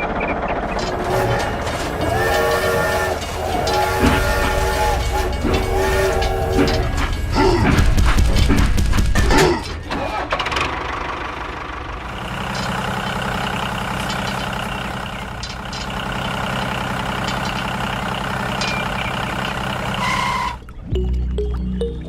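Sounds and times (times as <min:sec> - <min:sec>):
engine idling: 0:00.0 - 0:20.6.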